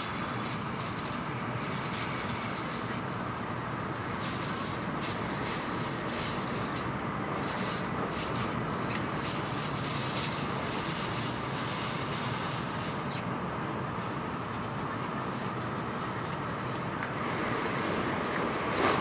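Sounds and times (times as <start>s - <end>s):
train wheels and air rumbling: 0.0s - 19.0s.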